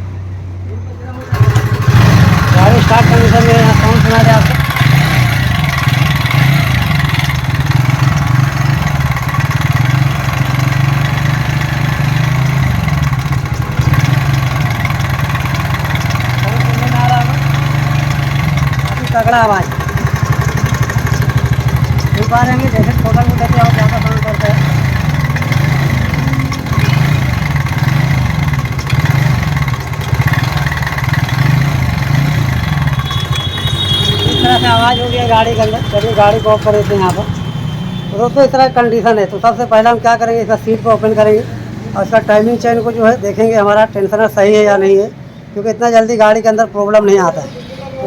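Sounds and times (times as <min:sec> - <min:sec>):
scooter engine idling: 0:00.0 - 0:45.6
fast clattering engine rattle: 0:01.1 - 0:44.7.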